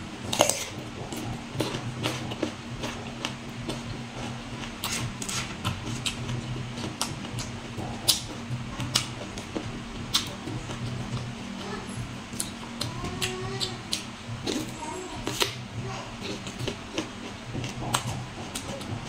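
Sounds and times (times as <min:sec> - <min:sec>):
crunchy chewing: 0:00.2 - 0:19.0.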